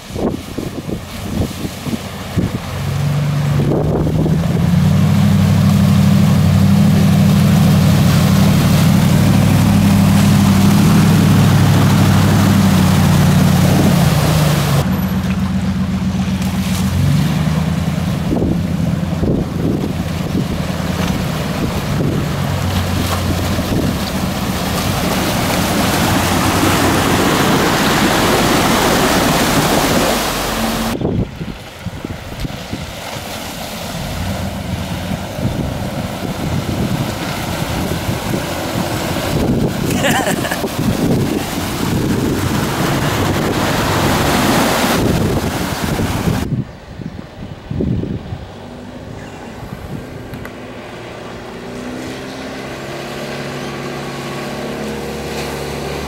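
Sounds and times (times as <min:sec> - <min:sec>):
pickup engines running: 0:00.0 - 0:56.0
water rushing and splashing: 0:00.0 - 0:56.0.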